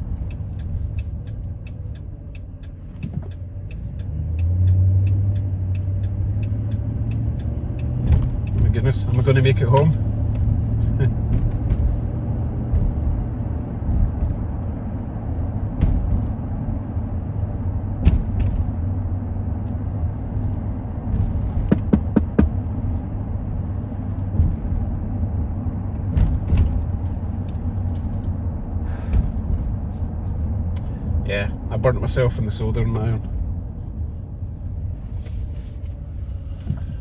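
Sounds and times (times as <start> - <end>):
engine and road drone: 0.0 - 37.0.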